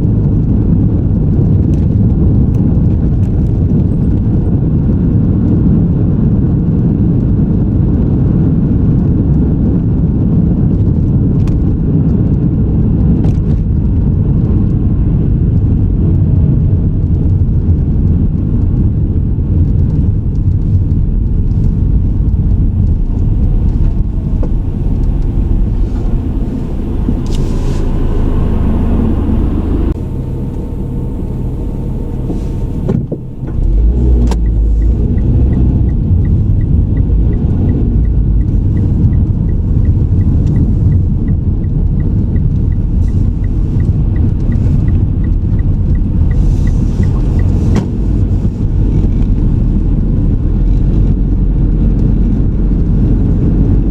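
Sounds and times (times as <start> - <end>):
car tyre and engine rumble: 0.0 - 53.9.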